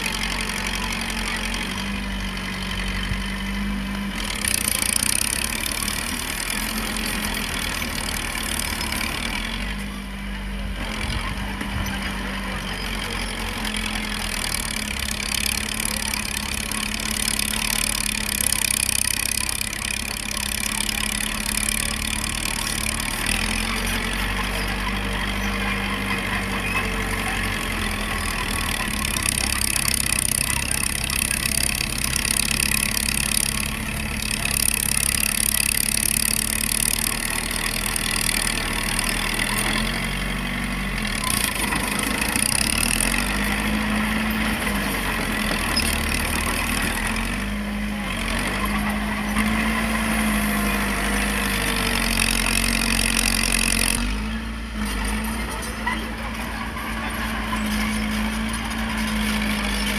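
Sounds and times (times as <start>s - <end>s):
diesel engines working under load: 0.0s - 59.9s.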